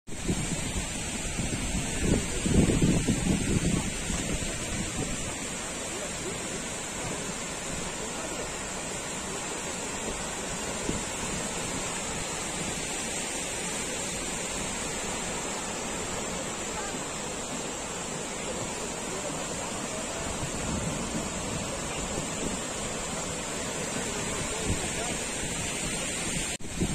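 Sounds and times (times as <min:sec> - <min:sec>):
water rushing: 0:00.1 - 0:26.9.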